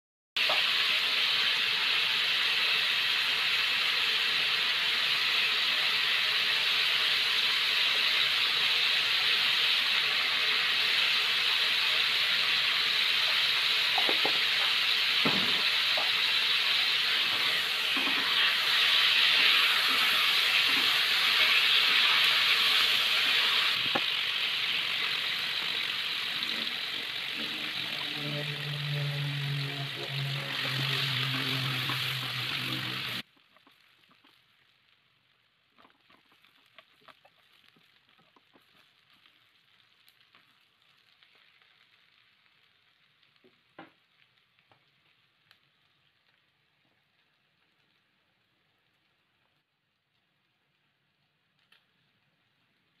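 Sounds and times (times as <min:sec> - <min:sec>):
meat sizzling in hot oil: 0:00.4 - 0:49.6.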